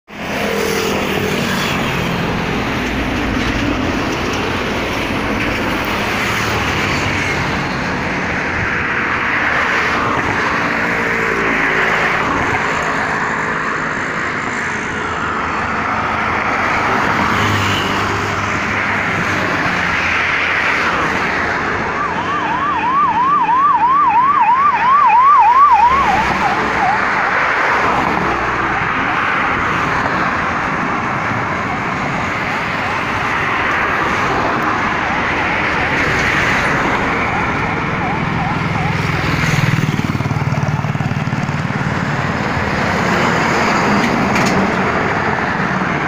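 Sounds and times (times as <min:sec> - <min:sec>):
road traffic passing: 0:00.1 - 0:46.0.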